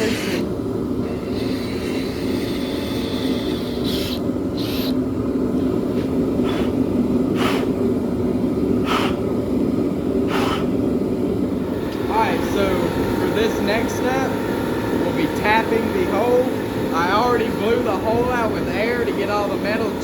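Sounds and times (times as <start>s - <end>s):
machine droning: 0.0s - 20.0s.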